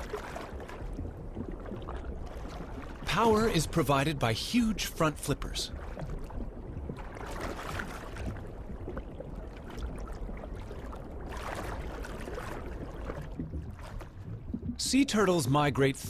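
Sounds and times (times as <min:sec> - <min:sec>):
underwater low rumble: 0:00.0 - 0:16.0
water swishing and gurgling: 0:00.0 - 0:16.0.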